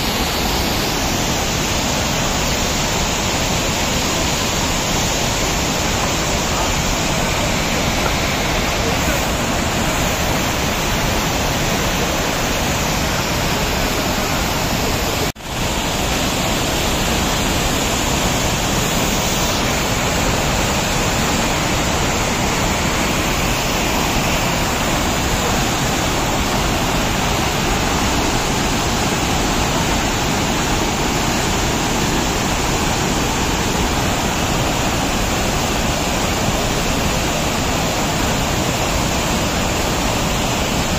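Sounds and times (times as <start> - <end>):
whitewater rapids rushing over rocks: 0.0 - 40.9.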